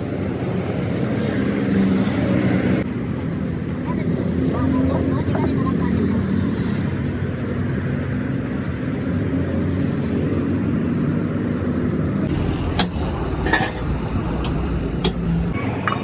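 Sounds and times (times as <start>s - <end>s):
vehicle engine rumbling: 2.4s - 16.0s.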